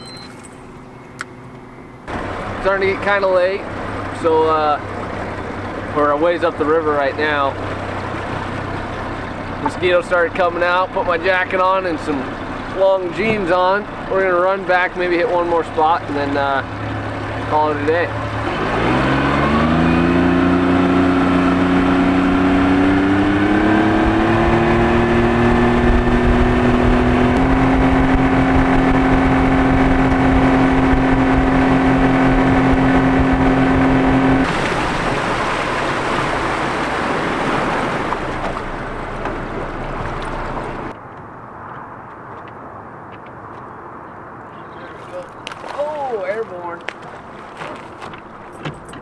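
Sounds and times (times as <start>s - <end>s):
boat motor running: 0.0s - 41.0s
rush of water and wind: 2.1s - 41.0s, 43.7s - 49.0s.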